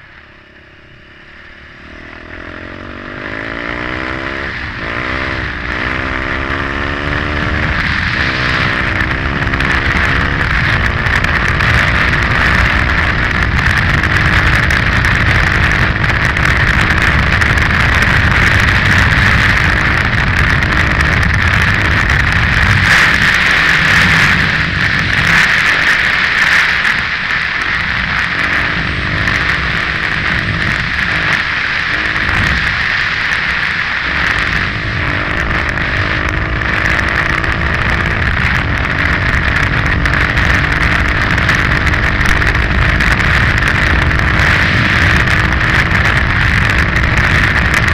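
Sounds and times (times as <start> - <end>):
dirt bike engine: 0.0 - 47.9
wind rushing on microphone: 1.1 - 47.9.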